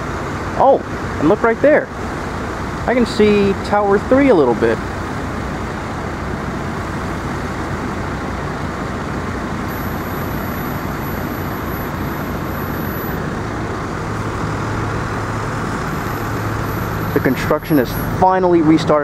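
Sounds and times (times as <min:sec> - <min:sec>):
passing street traffic: 0:00.0 - 0:19.0
low engine hum: 0:01.9 - 0:19.0.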